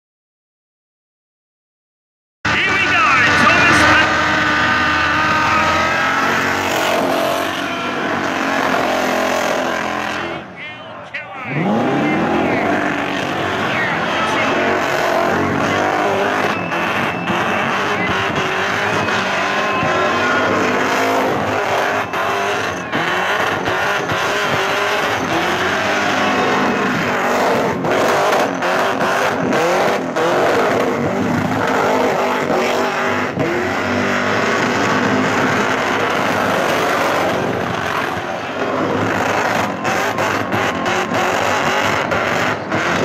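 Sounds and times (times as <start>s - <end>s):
vee eight engine revving: 2.5s - 43.0s
tyres spinning and squealing: 2.6s - 43.0s.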